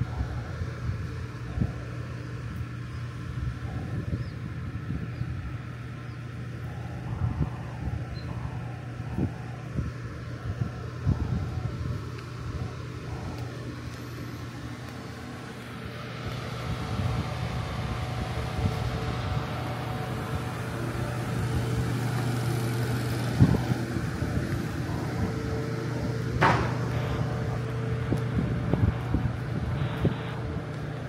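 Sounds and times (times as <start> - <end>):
wind on microphone: 0.0 - 13.9, 16.2 - 21.9, 23.2 - 31.0
low hum: 0.0 - 31.0.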